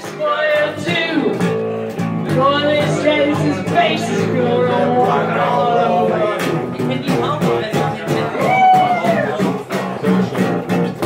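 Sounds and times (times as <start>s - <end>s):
woman singing: 0.0s - 9.6s
guitar strummed: 0.0s - 11.0s.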